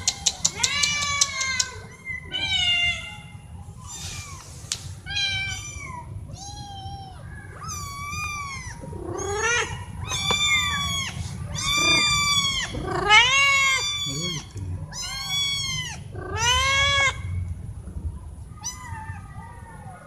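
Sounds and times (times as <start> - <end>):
cats meowing: 0.0 - 17.5, 18.4 - 20.0.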